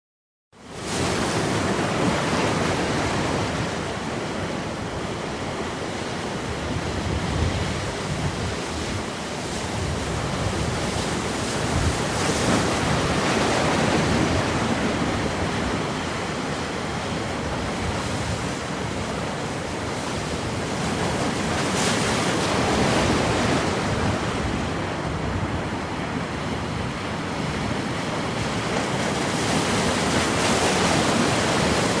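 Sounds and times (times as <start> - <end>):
surf breaking on shore: 0.7 - 32.0
wind on microphone: 0.8 - 32.0.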